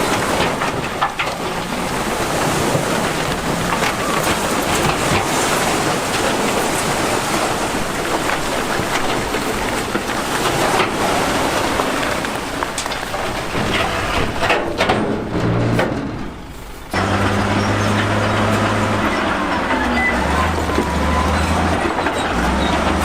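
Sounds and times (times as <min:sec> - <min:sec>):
rocks grinding and clattering: 0:00.0 - 0:23.0.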